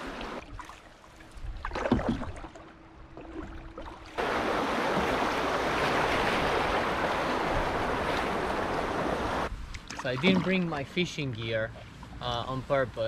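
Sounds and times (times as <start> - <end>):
canoe paddle splashing: 0.0 - 12.2.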